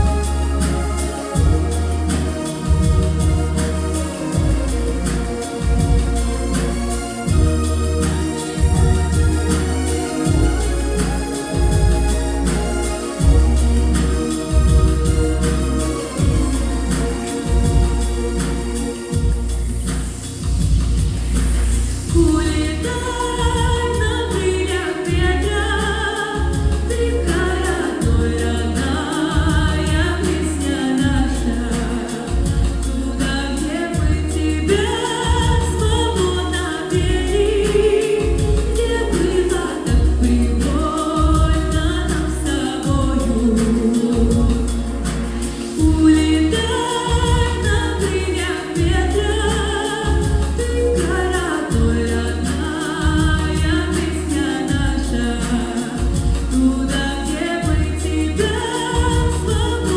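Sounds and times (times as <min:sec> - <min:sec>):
woman singing: 0:00.0 - 0:20.0, 0:22.1 - 0:59.9
heavy bass line: 0:00.0 - 0:59.9.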